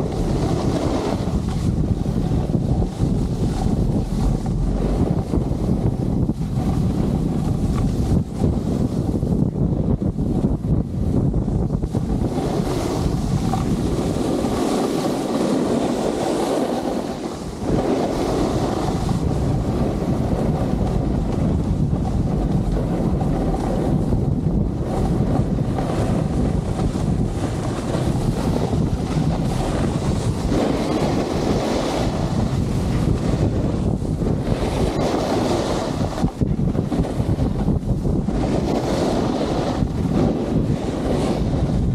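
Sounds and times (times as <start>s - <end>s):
skis scraping over packed snow: 0.0s - 41.9s
wind buffeting microphone: 0.0s - 41.9s.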